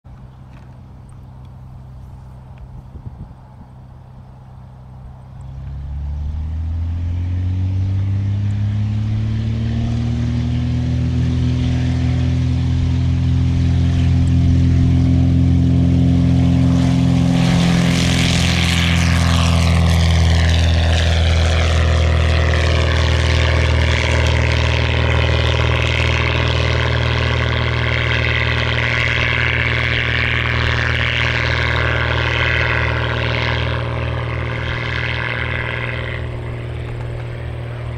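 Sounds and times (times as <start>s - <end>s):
propeller plane engine: 0.1s - 37.9s.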